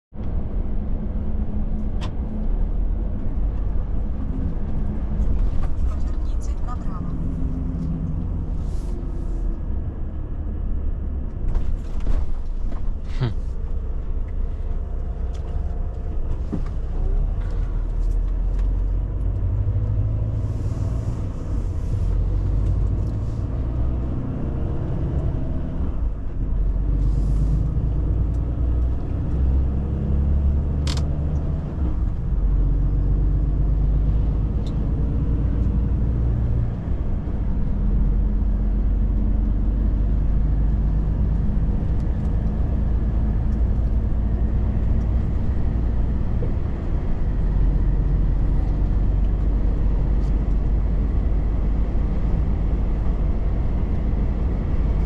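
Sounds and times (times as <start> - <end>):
road noise: 0.1 - 55.0
truck diesel engine rumble: 0.2 - 55.0.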